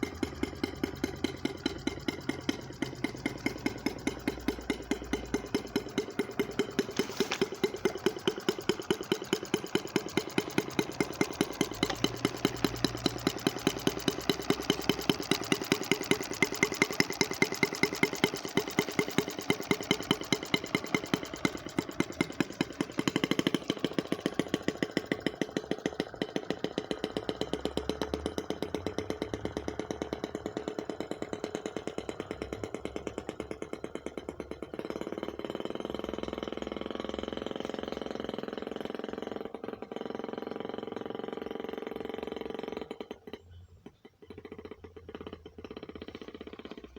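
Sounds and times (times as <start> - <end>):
model boat engine running: 0.0 - 46.9.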